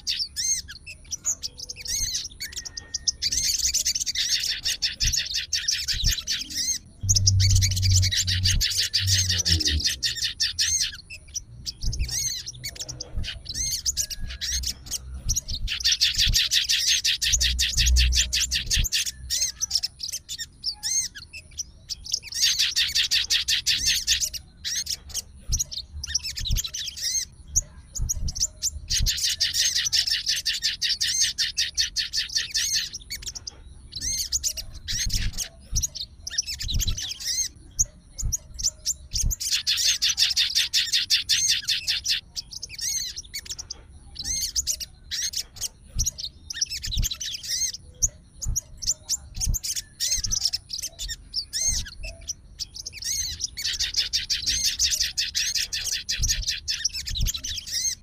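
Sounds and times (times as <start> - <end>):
songbird trilling: 0.0 - 58.0.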